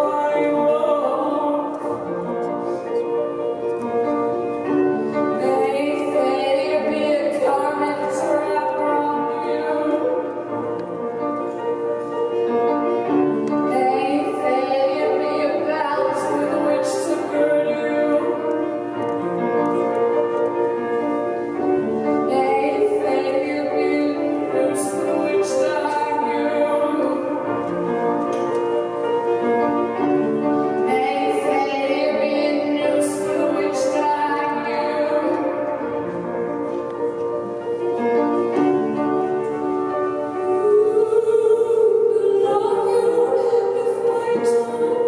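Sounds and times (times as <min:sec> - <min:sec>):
piano accompaniment: 0:00.0 - 0:45.0.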